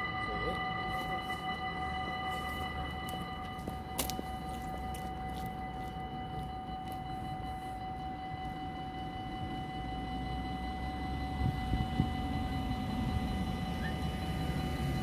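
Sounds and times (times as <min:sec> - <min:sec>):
level crossing warning bells: 0:00.0 - 0:15.0
road traffic: 0:00.0 - 0:15.0
wind rumble: 0:01.4 - 0:15.0.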